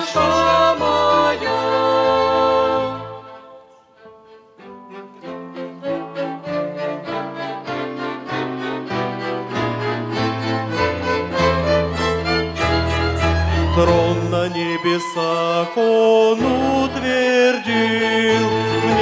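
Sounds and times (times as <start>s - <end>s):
string orchestra playing: 0.0s - 19.0s.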